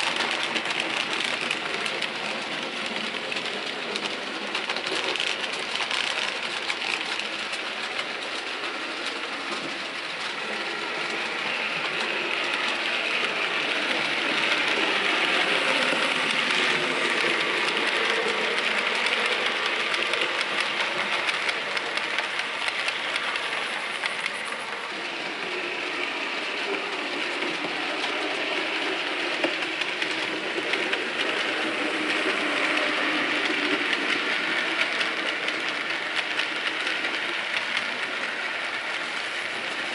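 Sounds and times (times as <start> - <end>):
model train whirring rattle: 0.0 - 39.9
wheels clicking over rail joints: 0.0 - 39.9.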